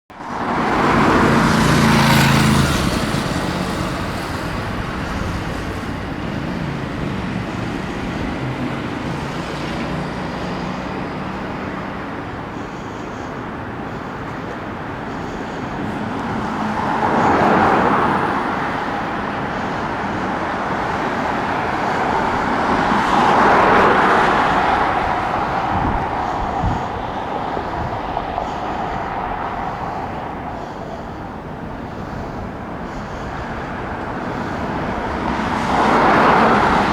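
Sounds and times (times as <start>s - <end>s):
road traffic: 0.1s - 36.9s
vehicles passing by: 0.1s - 36.9s
fire engine diesel engine running: 0.6s - 36.9s.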